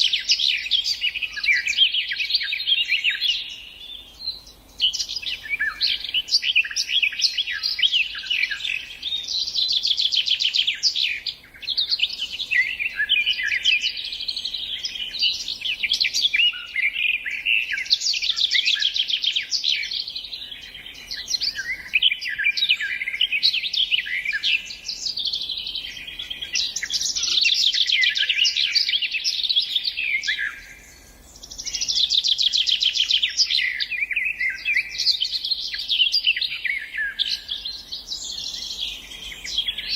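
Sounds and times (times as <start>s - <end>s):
songbird singing trills and chirps: 0.0s - 39.9s.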